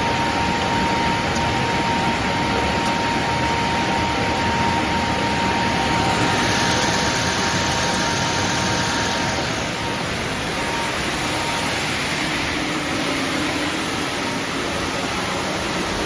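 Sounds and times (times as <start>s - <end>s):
factory machinery running: 0.0s - 16.0s
high machine whine: 0.0s - 16.0s.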